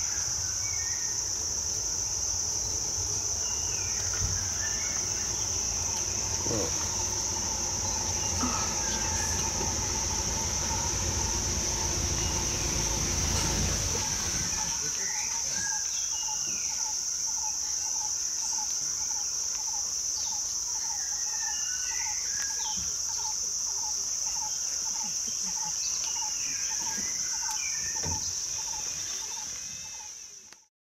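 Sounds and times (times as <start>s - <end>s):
high-pitched insect drone: 0.0s - 30.4s
bird calls: 3.4s - 30.4s.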